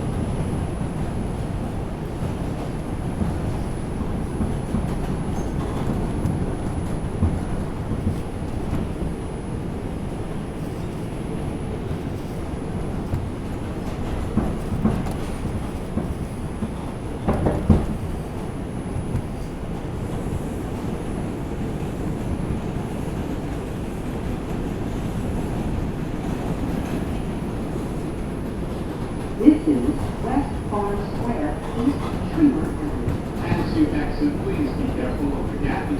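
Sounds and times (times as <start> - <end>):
subway train rumbling on track: 0.0 - 35.9
train knocks: 0.0 - 35.9.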